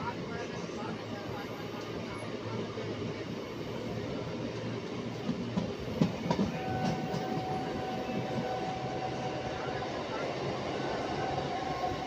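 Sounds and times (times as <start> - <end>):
train rumble on board: 0.0 - 12.0.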